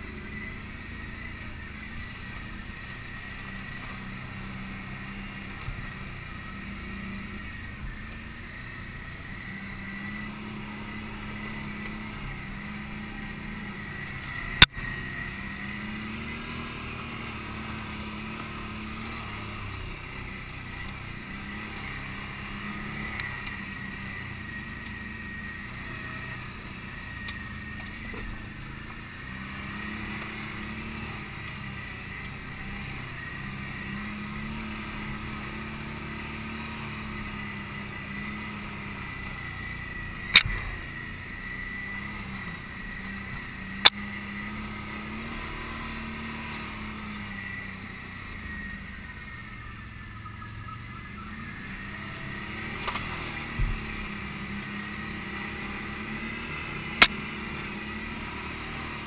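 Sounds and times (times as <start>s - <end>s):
atv engine running: 0.0s - 59.0s
high whine: 0.0s - 59.0s.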